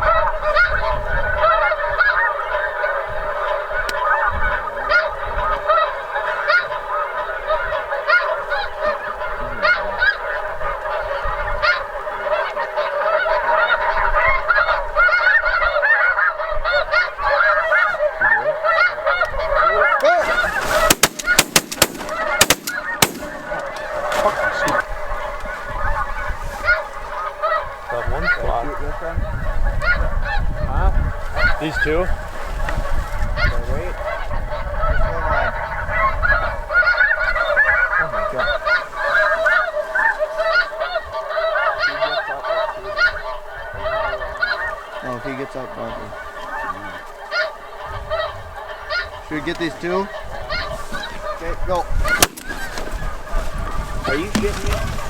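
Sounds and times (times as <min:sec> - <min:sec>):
geese honking chorus: 0:00.0 - 0:55.0.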